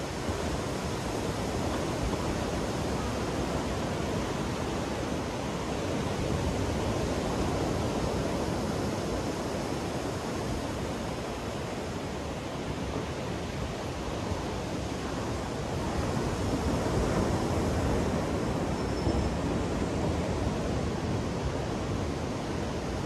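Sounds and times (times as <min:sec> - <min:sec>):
waves breaking on beach: 0:00.0 - 0:18.8.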